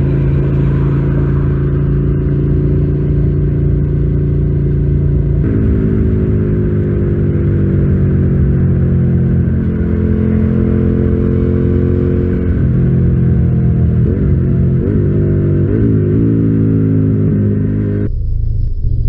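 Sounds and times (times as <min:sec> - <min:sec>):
motorcycle engine riding: 0:00.0 - 0:18.2.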